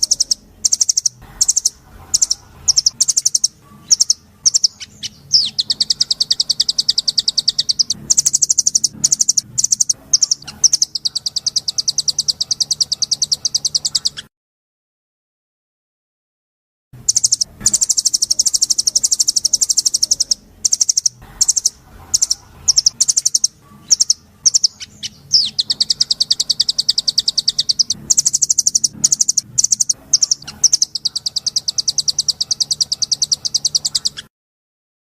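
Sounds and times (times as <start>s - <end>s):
songbird trilling: 0.0s - 14.3s, 17.0s - 34.3s.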